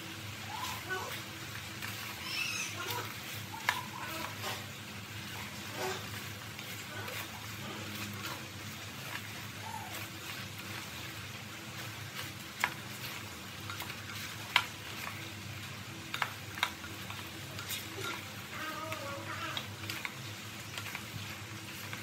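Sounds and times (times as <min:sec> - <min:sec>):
food sizzling in syrup: 0:00.0 - 0:22.0.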